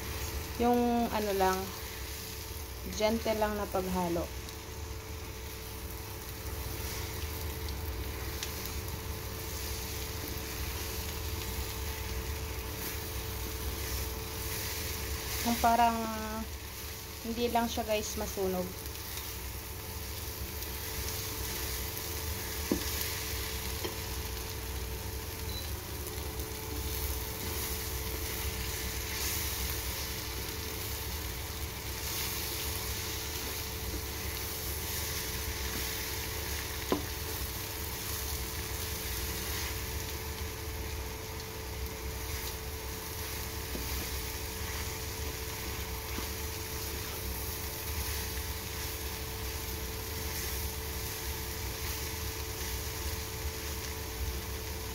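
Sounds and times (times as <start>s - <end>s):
food sizzling in a pan: 0.0s - 54.9s
steady low hum: 0.0s - 54.9s.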